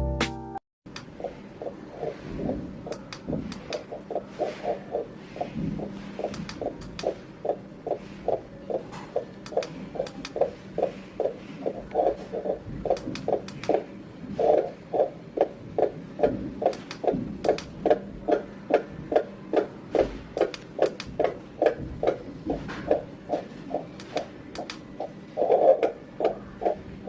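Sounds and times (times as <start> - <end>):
steady low hum: 0.9 - 27.0
whooshing heartbeat from speaker: 1.2 - 27.0.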